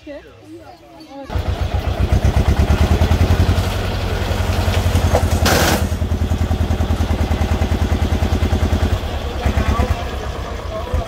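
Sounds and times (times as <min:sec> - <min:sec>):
tractor engine chugging: 0:01.2 - 0:11.0.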